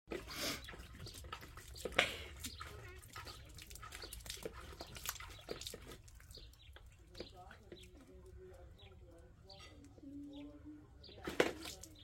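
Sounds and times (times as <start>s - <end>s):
dog splashing water: 0.1s - 9.4s, 11.1s - 12.0s.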